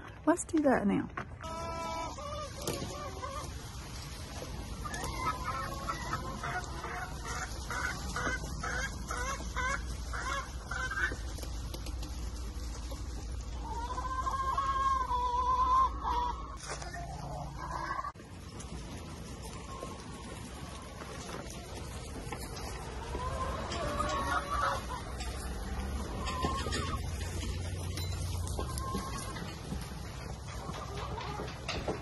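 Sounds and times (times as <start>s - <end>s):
hens clucking: 1.2s - 32.0s.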